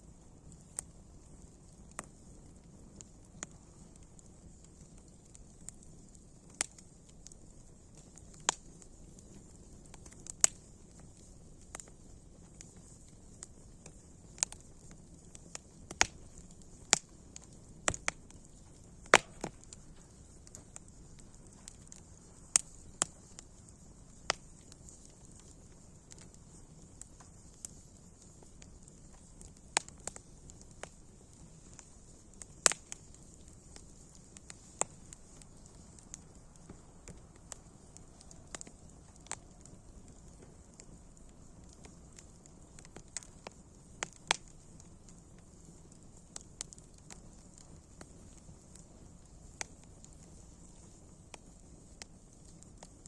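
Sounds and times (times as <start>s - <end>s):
faint steady hiss: 0.0s - 53.0s
wood fire crackling: 0.0s - 53.0s.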